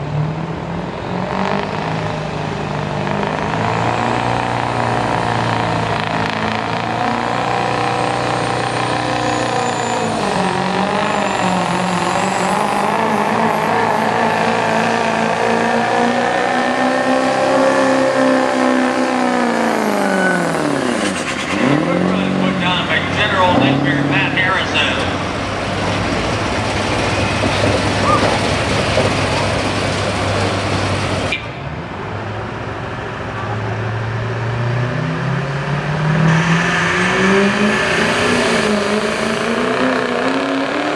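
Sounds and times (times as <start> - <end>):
diesel engine at full throttle: 0.0 - 40.9.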